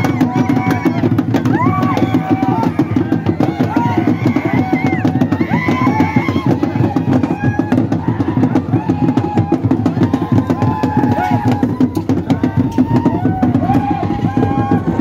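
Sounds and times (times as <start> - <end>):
fast group drumming: 0.0 - 15.0
voices calling and singing: 0.0 - 15.0.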